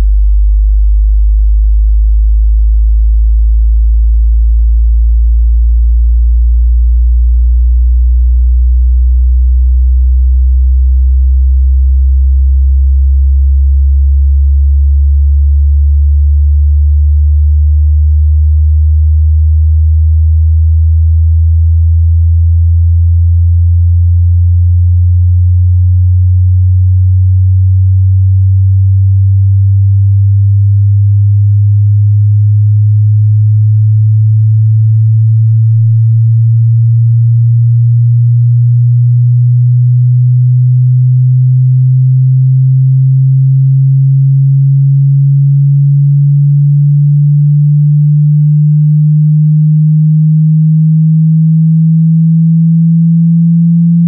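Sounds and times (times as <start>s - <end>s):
sine tone rising in pitch: 0.0s - 54.0s.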